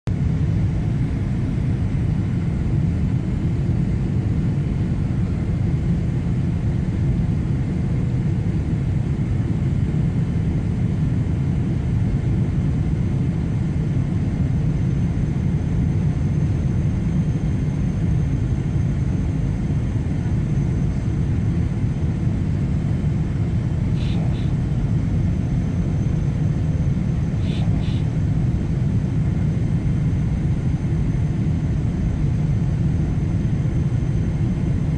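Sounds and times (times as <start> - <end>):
jet engine noise: 0.1 - 34.9.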